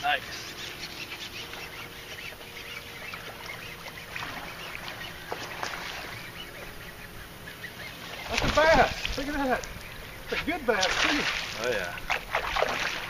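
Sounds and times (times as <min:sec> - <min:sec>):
birds chirping and squawking: 0:00.0 - 0:13.0
outdoor background noise: 0:00.0 - 0:13.0.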